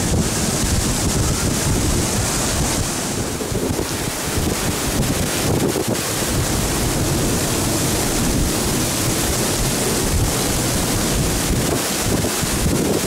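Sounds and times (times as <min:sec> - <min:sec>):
torrential rain pouring: 0:00.0 - 0:13.0
wind gusts rumbling on microphone: 0:00.0 - 0:13.0.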